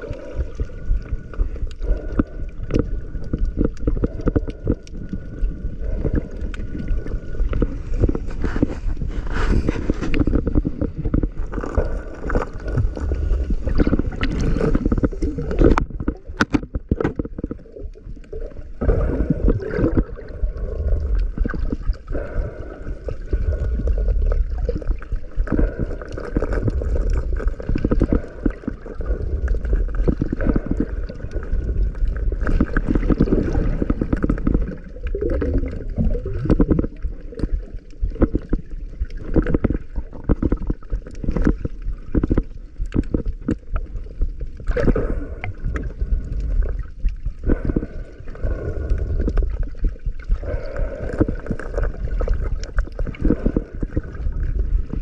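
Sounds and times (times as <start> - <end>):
bubbles and small knocks: 0.0 - 55.0
muffled underwater sloshing: 0.0 - 55.0.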